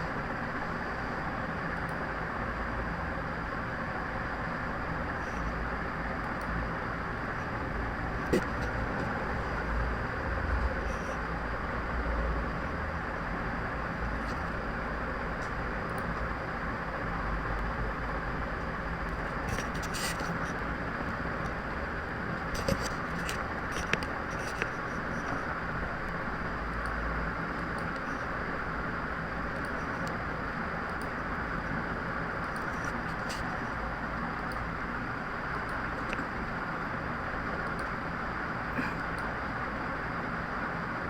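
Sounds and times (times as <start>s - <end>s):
low rumble with hiss: 0.0s - 41.0s.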